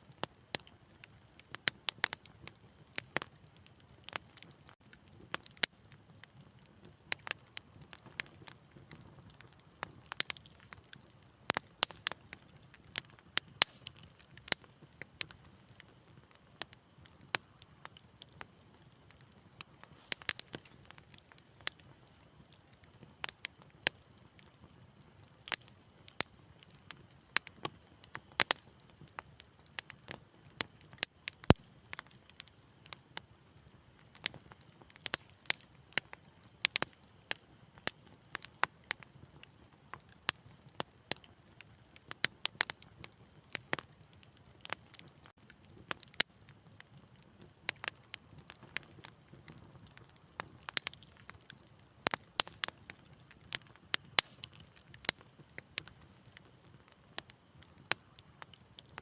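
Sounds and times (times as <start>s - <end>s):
low hiss of burning: 0.0s - 59.0s
wood fire crackling: 0.0s - 59.0s.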